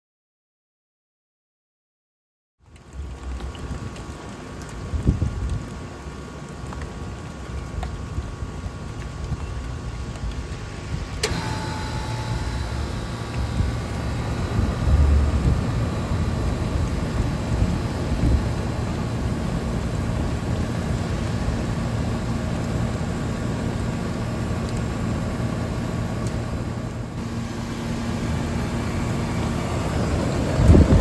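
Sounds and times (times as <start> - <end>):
rain falling: 2.6 - 31.0
condenser fan: 2.7 - 31.0
air conditioner compressor humming: 5.8 - 31.0.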